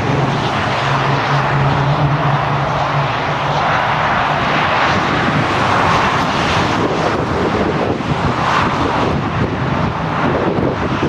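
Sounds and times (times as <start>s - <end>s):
piston aircraft engines droning: 0.0s - 11.0s
wind buffeting microphone: 0.0s - 11.0s.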